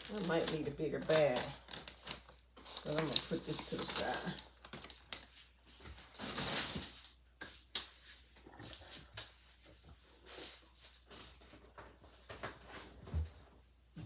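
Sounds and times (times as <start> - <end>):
rustling and handling noise: 0.0 - 14.0.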